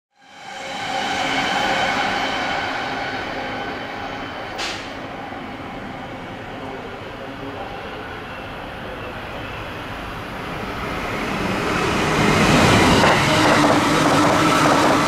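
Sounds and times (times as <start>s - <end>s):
electric train passing: 0.2s - 15.0s.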